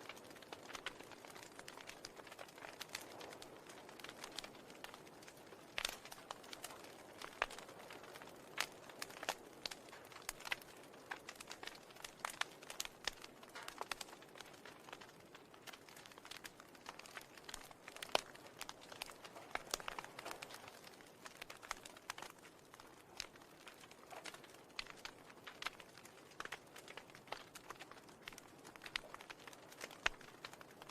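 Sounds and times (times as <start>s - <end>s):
faint crackling clicks: 0.0s - 30.9s.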